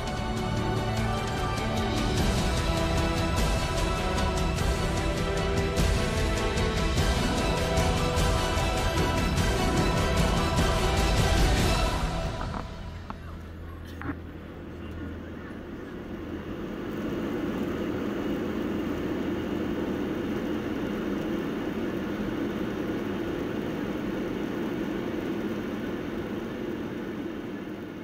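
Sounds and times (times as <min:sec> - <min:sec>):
jet engines roaring inside cabin: 0:00.0 - 0:28.0.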